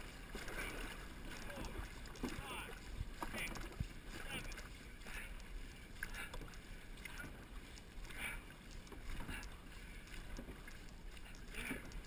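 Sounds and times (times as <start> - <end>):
paddles splashing in water: 0.0 - 12.0.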